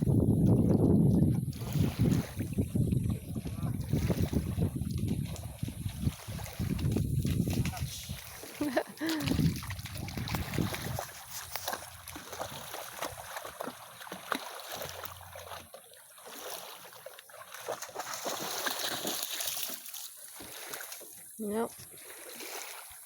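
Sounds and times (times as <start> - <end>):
water splashing and lapping: 0.0 - 23.0.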